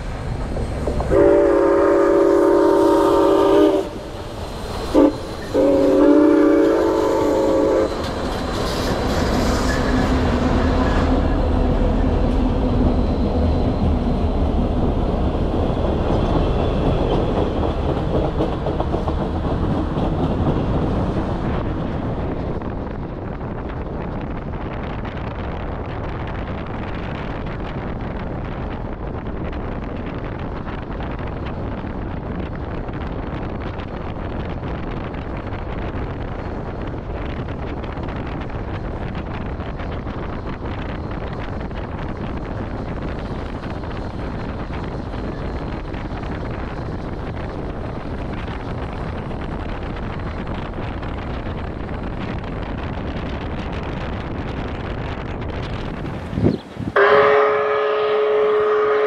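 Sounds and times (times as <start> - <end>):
train wheels rumbling on rails: 0.0 - 59.0
wind noise on microphone: 0.0 - 59.0.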